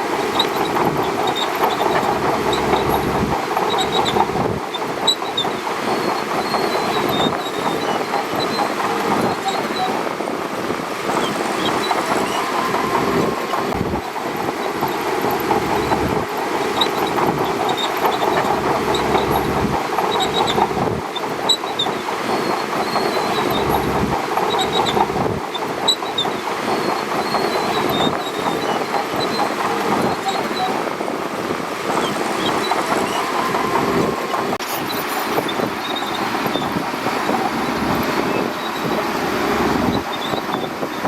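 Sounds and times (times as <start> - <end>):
bulldozer engine running: 0.0 - 41.0
steel tracks clanking: 0.0 - 41.0
short high squeaks: 0.3 - 10.1, 11.1 - 31.1, 31.9 - 41.0.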